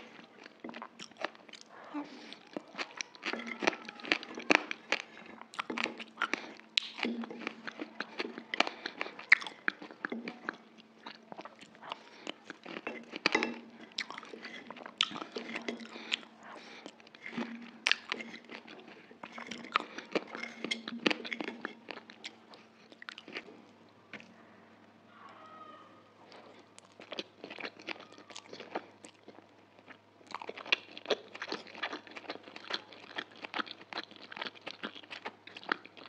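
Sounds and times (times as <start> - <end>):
wet chewing of food: 0.0 - 24.5, 26.2 - 36.0
faint steady hum: 0.0 - 36.0.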